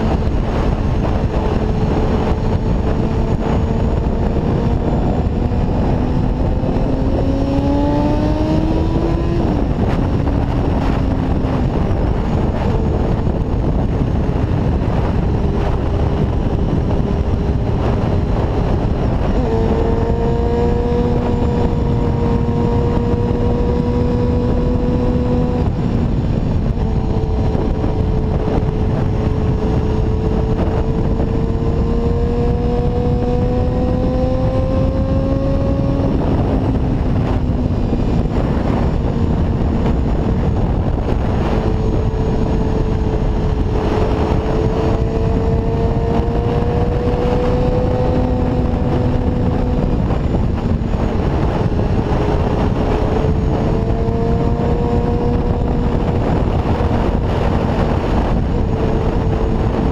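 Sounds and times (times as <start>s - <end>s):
motorcycle engine revving: 0.0s - 59.9s
wind rushing over microphone: 0.0s - 59.9s.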